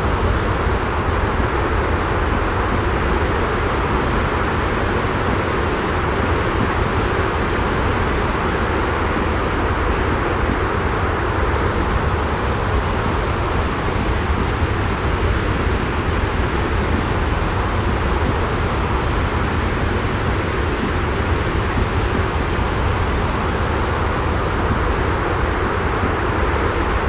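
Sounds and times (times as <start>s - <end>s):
white noise with deep rumble: 0.0s - 27.0s.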